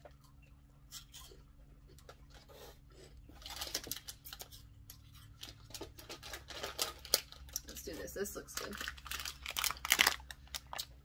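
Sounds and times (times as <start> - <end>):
low steady hum: 0.0 - 11.0
snack packets rustling: 2.0 - 11.0.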